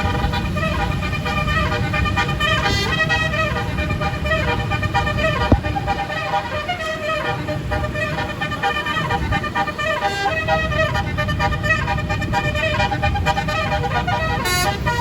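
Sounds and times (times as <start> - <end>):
multi-note bus air horn tune: 0.0 - 15.0.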